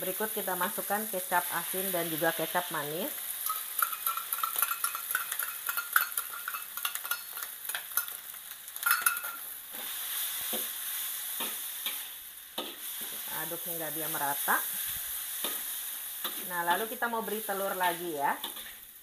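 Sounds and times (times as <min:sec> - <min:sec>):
noodles sizzling in oil: 0:00.0 - 0:19.0
metal spatula scraping wok: 0:03.4 - 0:18.9.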